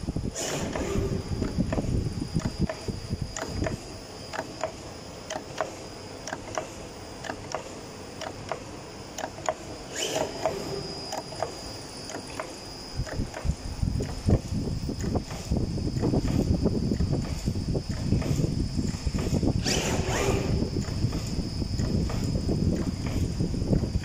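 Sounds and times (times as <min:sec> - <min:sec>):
machine high whine: 0:00.0 - 0:24.0.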